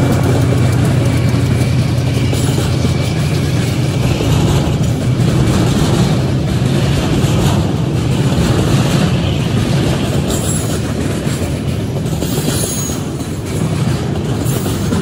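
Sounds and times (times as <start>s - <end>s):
locomotive engine hum: 0.0s - 15.0s
train wheels rumbling on rail: 0.0s - 15.0s.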